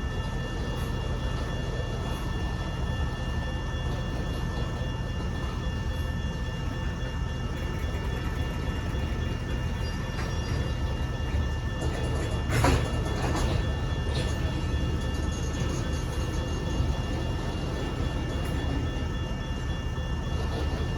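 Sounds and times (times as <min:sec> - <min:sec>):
freight train rumbling past: 0:00.0 - 0:20.9.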